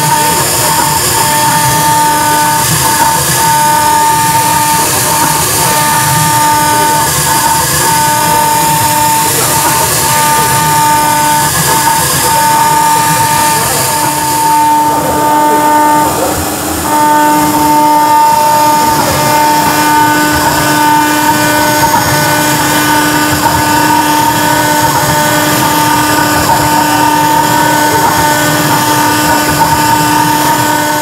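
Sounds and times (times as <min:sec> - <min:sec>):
spindle high whine: 0:00.0 - 0:31.0.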